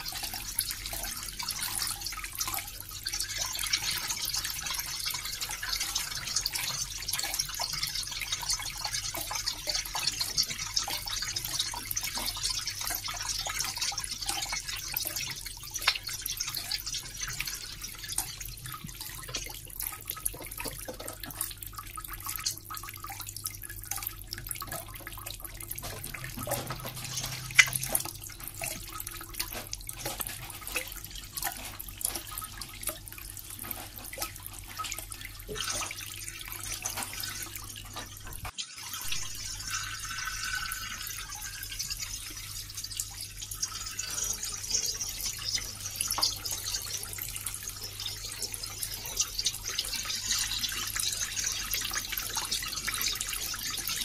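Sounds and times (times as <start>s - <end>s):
running water splashing: 0.0s - 54.0s
water drips and plops: 0.0s - 54.0s.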